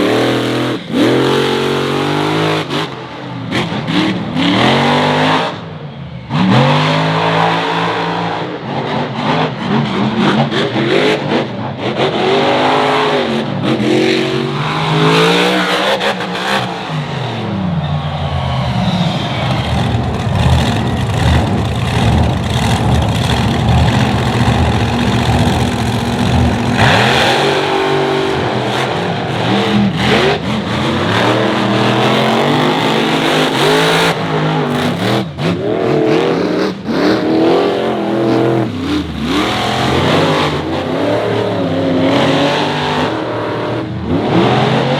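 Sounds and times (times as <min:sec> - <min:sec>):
truck engine revving: 0:00.0 - 0:17.7, 0:18.8 - 0:44.9.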